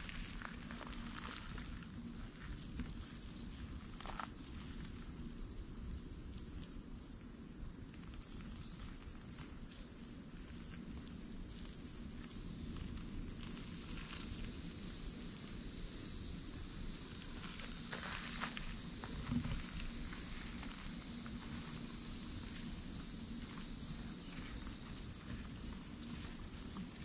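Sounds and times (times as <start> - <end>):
insect chorus droning: 0.0 - 27.0.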